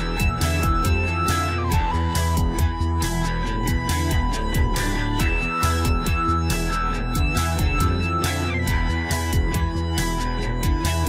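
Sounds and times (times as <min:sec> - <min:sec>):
bass: 0:00.0 - 0:11.0
electronic music with beat: 0:00.0 - 0:11.0
high sustained synth line: 0:00.0 - 0:11.0.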